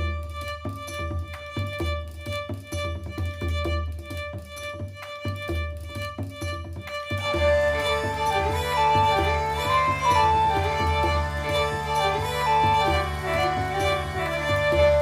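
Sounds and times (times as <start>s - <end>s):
fiddle tune over bass and beat: 0.0s - 15.0s.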